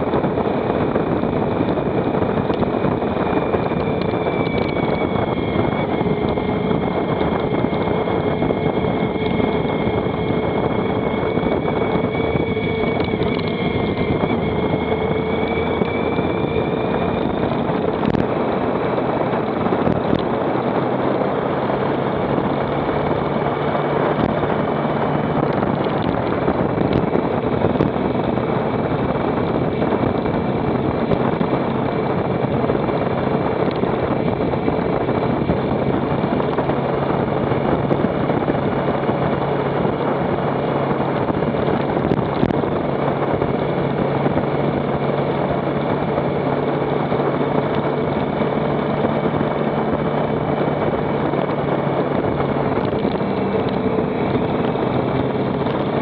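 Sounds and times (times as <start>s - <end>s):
motorcycle engine running: 0.0s - 56.0s
steady whine: 0.0s - 56.0s
wind noise: 0.0s - 56.0s.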